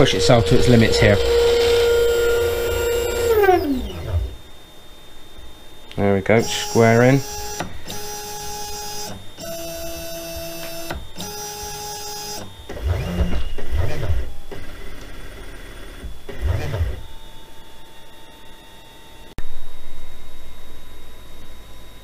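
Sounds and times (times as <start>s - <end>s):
stepper motors whining: 0.0s - 4.7s, 6.0s - 19.4s.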